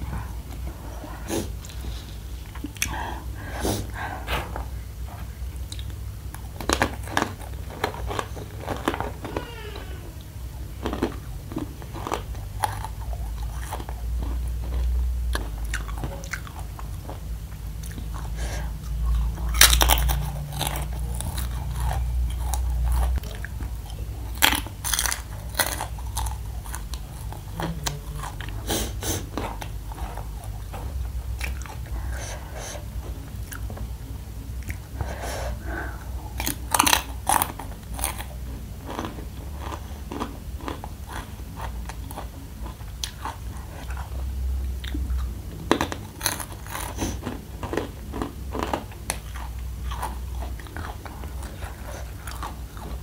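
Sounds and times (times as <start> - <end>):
close chewing of crispy food: 5.2 - 9.6, 10.6 - 53.0.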